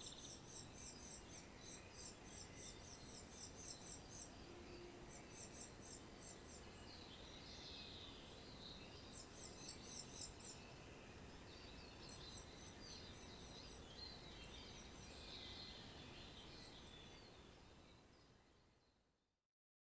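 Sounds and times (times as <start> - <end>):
low background hiss: 0.0 - 19.4.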